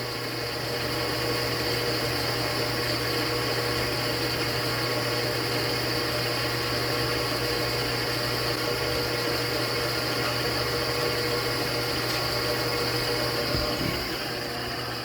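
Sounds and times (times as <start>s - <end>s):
electric motor humming and whining: 0.0s - 15.0s.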